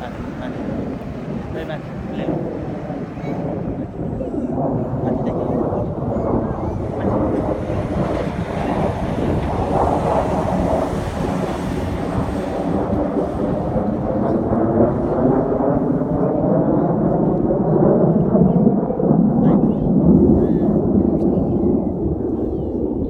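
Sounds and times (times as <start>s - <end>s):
aircraft engine roar: 0.0s - 23.0s.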